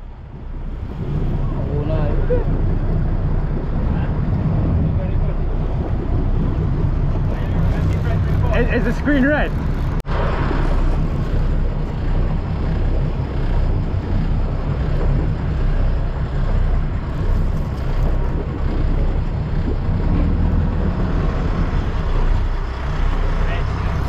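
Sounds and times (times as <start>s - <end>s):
boat engine rumble: 0.0s - 24.0s
water noise: 0.0s - 24.0s
wind: 0.0s - 24.0s.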